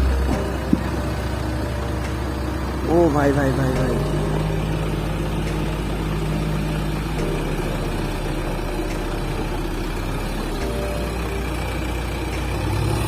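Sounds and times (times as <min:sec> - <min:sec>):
digger diesel engine: 0:00.0 - 0:13.0.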